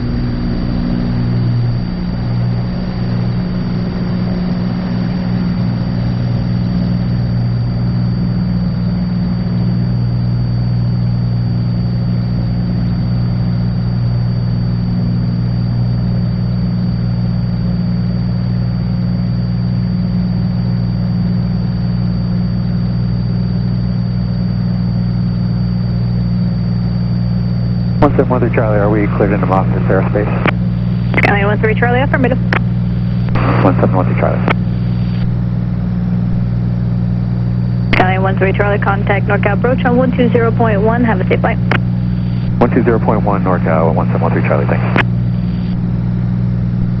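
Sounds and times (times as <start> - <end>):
plane engine deep drone: 0.0 - 47.0
thin high whine: 0.0 - 47.0.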